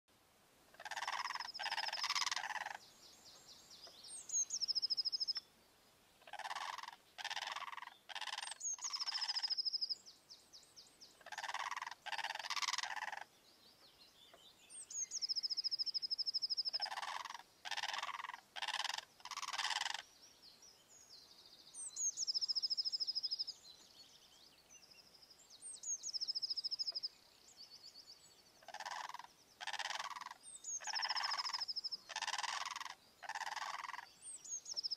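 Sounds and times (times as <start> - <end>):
rapid trilling bird song: 0.8 - 5.5, 6.2 - 34.9.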